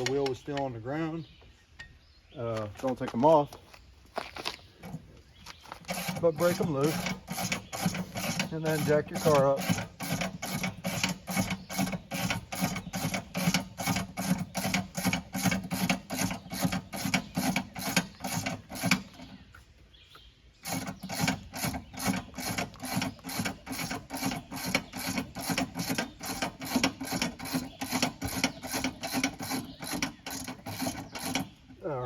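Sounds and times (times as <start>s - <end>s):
car jack rasping strokes: 4.8s - 19.4s, 20.6s - 31.8s.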